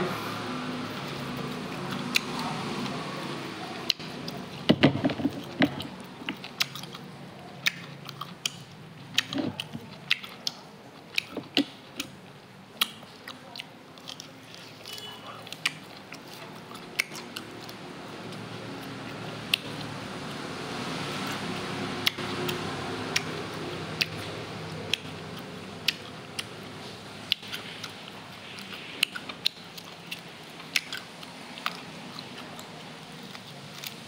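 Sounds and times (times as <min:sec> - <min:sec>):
mouth clicks and smacks: 0:03.8 - 0:19.9, 0:22.0 - 0:34.0
person chewing and biting food: 0:03.8 - 0:20.3, 0:20.9 - 0:34.0.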